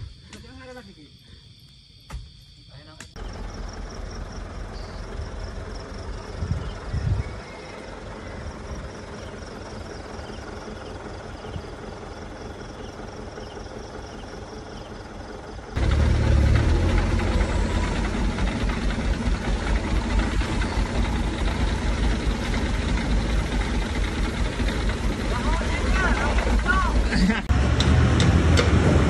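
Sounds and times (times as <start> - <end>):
engine background hum: 2.8 - 29.0
diesel truck engines rumbling: 3.2 - 29.0.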